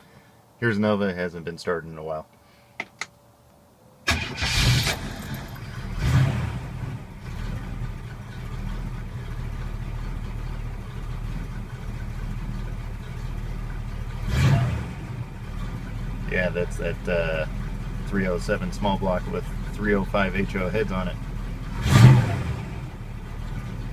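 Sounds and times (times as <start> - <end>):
car engine starting and idling: 4.0 - 23.9.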